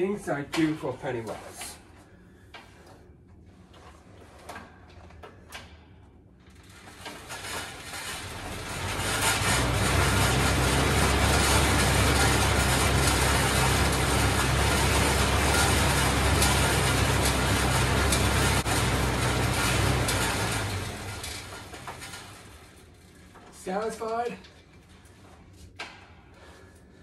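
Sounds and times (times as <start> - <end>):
exercise bike whirring: 0.0 - 27.0.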